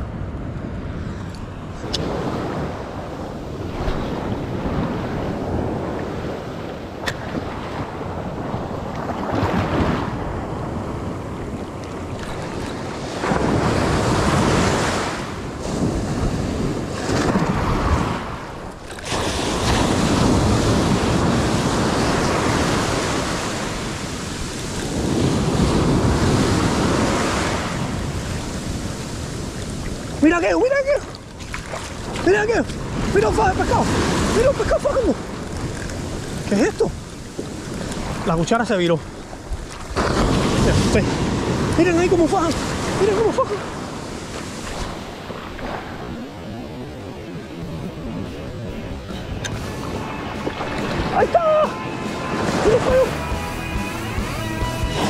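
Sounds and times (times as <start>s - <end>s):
ocean surf breaking on beach: 0.0s - 55.0s
wind buffeting microphone: 0.0s - 55.0s.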